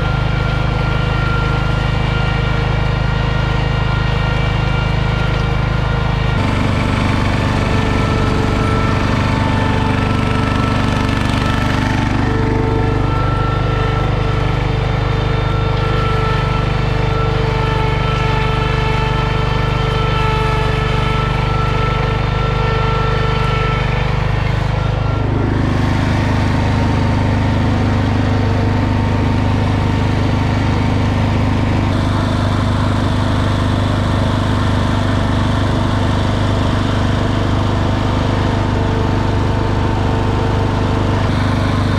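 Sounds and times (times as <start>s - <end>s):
garden tractor engine running: 0.0s - 41.9s.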